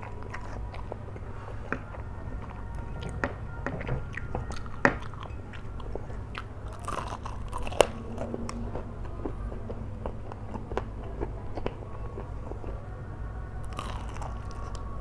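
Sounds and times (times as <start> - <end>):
person chewing noodles: 0.0 - 12.9, 13.6 - 15.0
low hum: 0.0 - 15.0.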